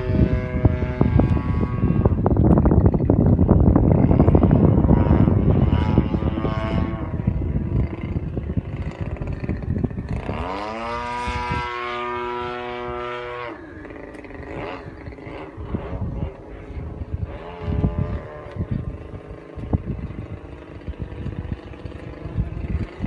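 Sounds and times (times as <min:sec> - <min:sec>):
model plane engine and propeller: 0:00.0 - 0:23.0
wind noise on microphone: 0:00.0 - 0:23.0.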